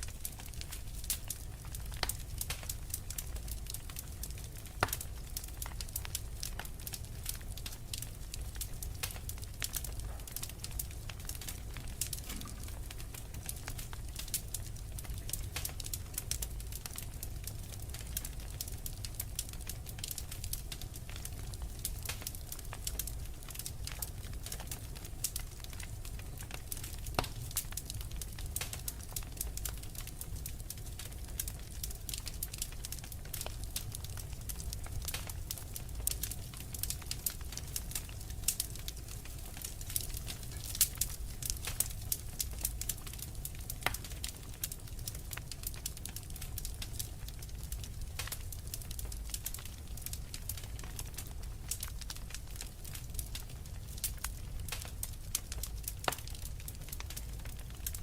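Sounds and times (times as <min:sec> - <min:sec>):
fire low rumble: 0:00.0 - 0:58.0
wood fire popping and snapping: 0:00.0 - 0:58.0.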